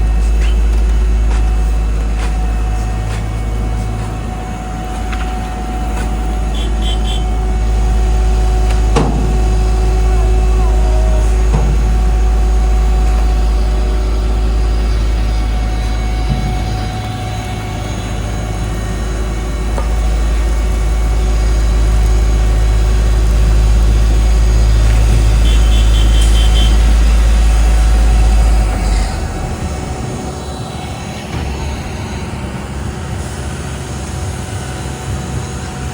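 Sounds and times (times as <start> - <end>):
diesel machinery rumbling: 0.0 - 35.9.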